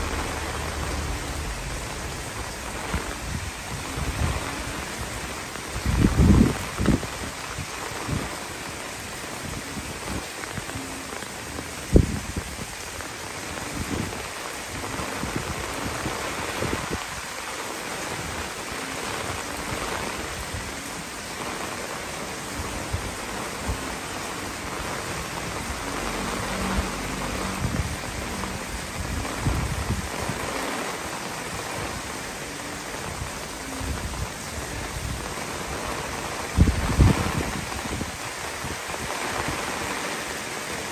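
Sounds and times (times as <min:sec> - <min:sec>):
wind buffeting on microphone: 0:00.0 - 0:10.8, 0:11.6 - 0:17.4, 0:19.1 - 0:40.9
heavy rain on foliage: 0:00.0 - 0:40.9.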